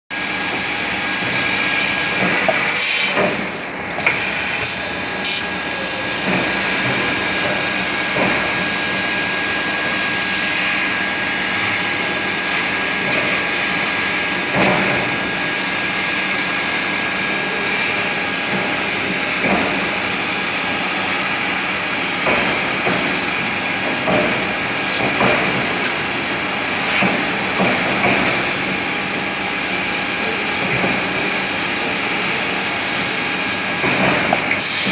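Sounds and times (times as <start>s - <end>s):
laser cutter hissing: 0.2s - 34.9s.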